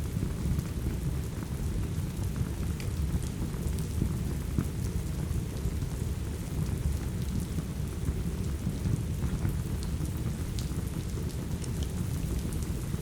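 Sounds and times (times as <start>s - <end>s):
steady rain rumble: 0.0s - 13.0s.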